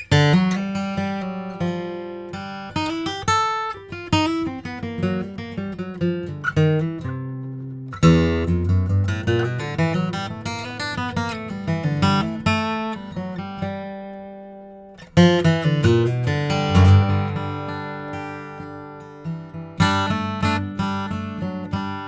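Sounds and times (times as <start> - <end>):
acoustic guitar flatpicking: 0.0 - 22.0.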